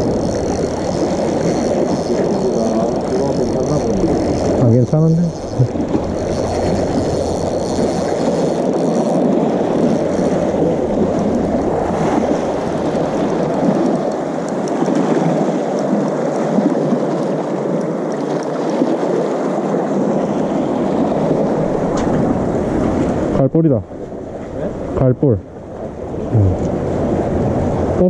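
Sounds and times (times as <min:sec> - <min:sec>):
sea waves washing among concrete blocks: 0:00.0 - 0:28.0.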